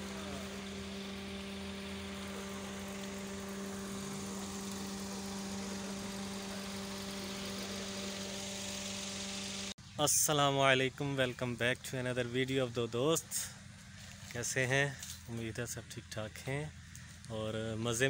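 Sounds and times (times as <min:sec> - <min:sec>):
faint hiss: 0:00.0 - 0:18.0
steady mechanical hum: 0:00.0 - 0:18.0.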